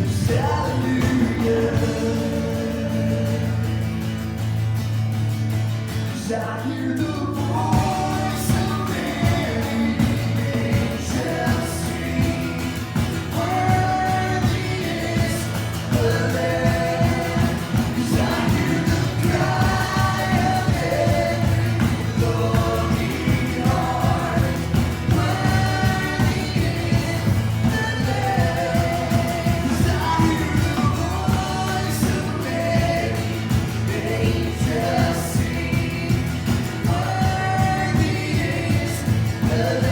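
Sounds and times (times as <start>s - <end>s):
band with steady beat: 0.0s - 4.0s, 7.5s - 39.9s
voices singing: 0.0s - 4.7s, 6.1s - 39.9s.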